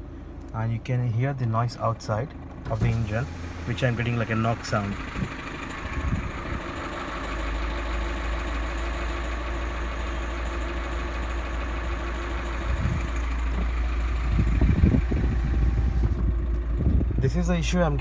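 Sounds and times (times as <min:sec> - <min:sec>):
car engine idling: 0:00.0 - 0:18.0
low rumble: 0:02.4 - 0:09.8, 0:10.8 - 0:18.0.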